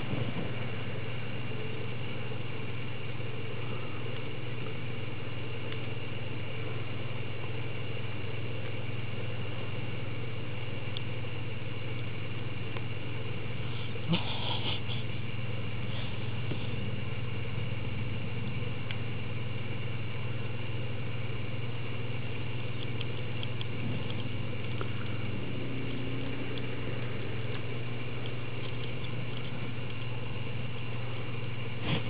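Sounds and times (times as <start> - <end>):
faint high whine: 0.0 - 32.0
low mechanical hum: 0.0 - 32.0.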